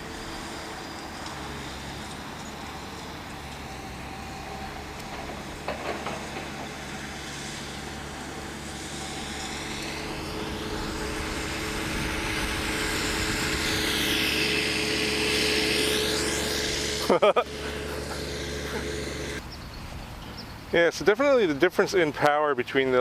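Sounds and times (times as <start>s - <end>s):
rc airplane motors and propellers: 0.0s - 23.0s.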